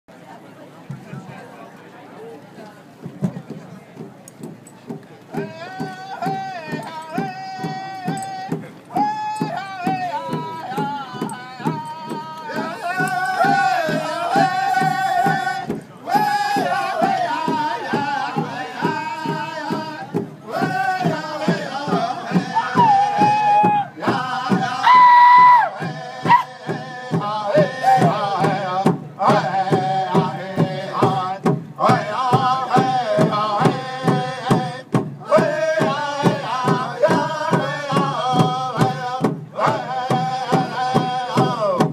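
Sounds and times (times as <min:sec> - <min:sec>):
steady drum beat: 0:03.0 - 0:41.9
men singing in chorus: 0:05.4 - 0:41.9.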